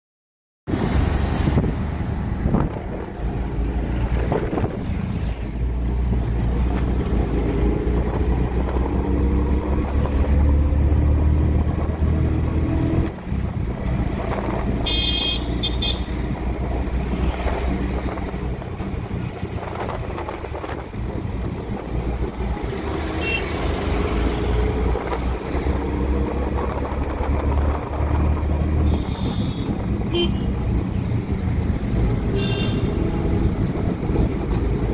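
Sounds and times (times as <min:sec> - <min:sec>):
road noise: 0:00.7 - 0:34.9
auto-rickshaw engine running: 0:02.3 - 0:34.9.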